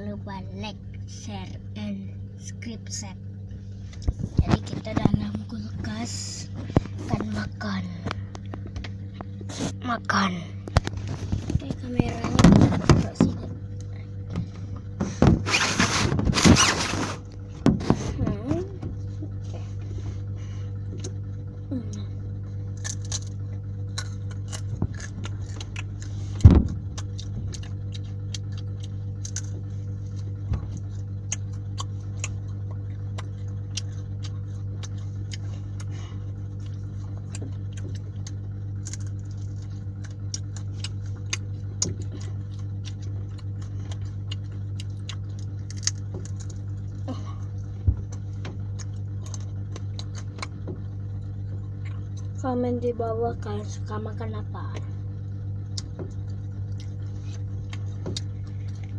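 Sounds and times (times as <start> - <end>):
low motor hum: 0.0 - 58.9.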